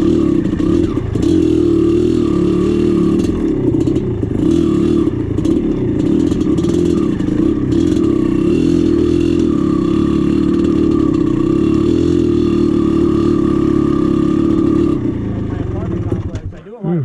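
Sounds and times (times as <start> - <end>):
dirt bike engine running: 0.0 - 16.7.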